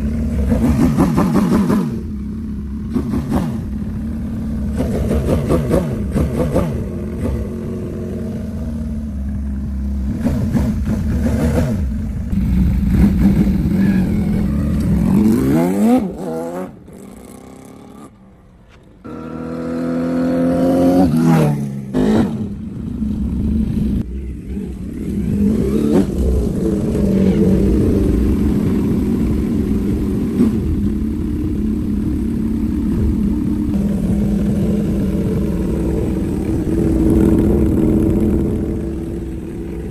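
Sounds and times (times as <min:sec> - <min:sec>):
engine revving: 0:00.0 - 0:18.3, 0:19.0 - 0:39.9.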